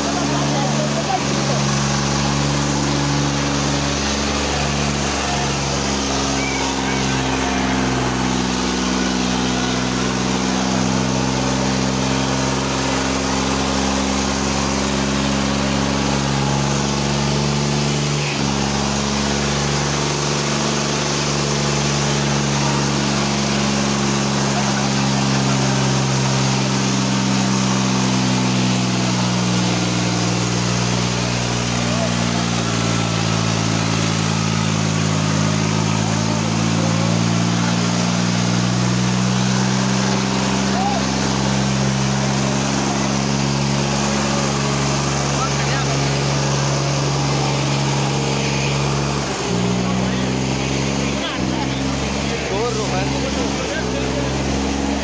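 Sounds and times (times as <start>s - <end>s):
people's voices: 0.0s - 55.0s
tractor engine running hard: 0.0s - 55.0s.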